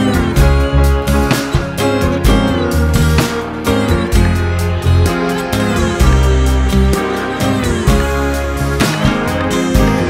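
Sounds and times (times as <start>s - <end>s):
bass line: 0.0s - 10.0s
plucked guitar notes: 0.0s - 10.0s.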